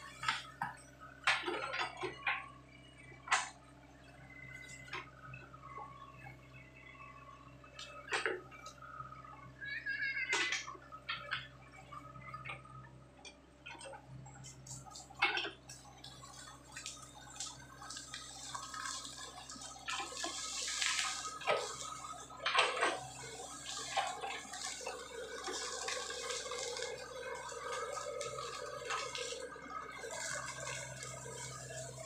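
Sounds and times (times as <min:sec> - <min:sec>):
diesel engine humming: 0:03.3 - 0:32.0.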